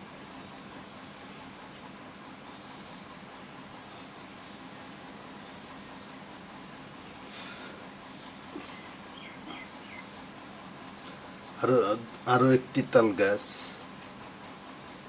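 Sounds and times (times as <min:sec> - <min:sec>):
insect chirping: 0:00.0 - 0:15.0
steady background hiss: 0:00.0 - 0:15.0.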